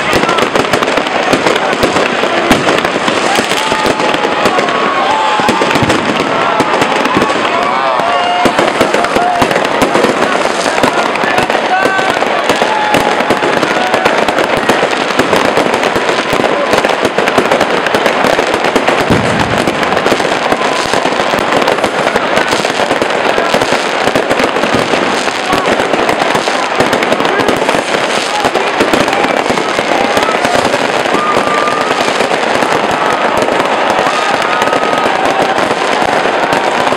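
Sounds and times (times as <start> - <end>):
fireworks crackling and popping: 0.0 - 36.9.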